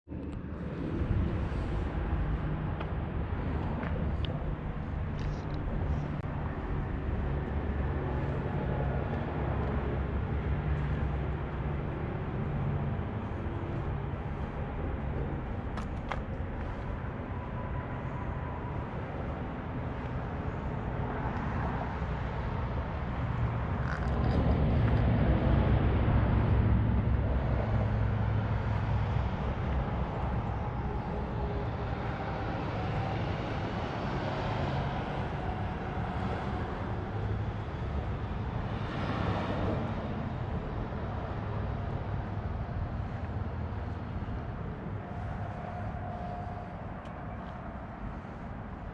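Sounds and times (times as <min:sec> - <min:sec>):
car engine rumbling: 0:00.2 - 0:48.9.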